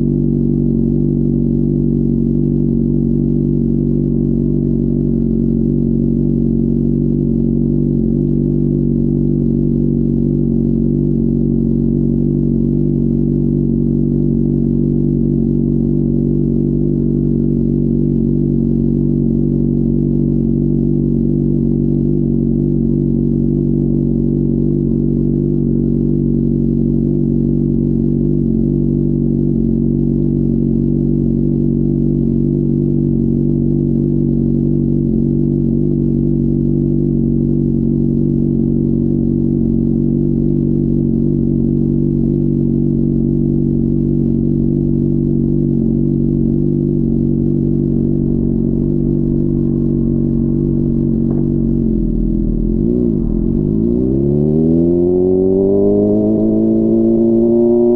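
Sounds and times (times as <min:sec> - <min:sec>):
motorcycle engine running steadily: 0:00.0 - 0:57.9.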